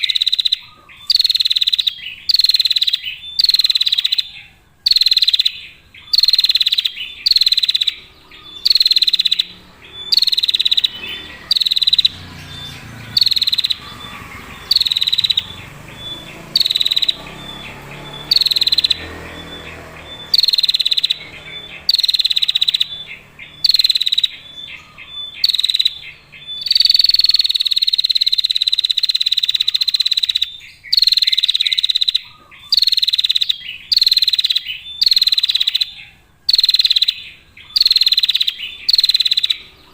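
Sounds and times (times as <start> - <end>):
bird buzzy trilling call: 0.0 - 39.9.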